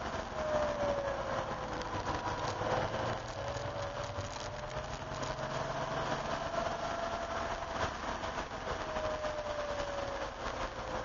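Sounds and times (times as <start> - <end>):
car engine heard from cabin: 0.0 - 11.0.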